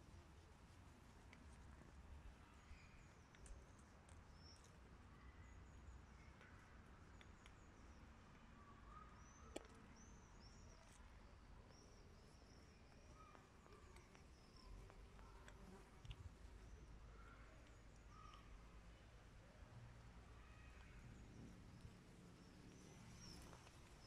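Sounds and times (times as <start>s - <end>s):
small birds chirping: 1.1s - 24.0s.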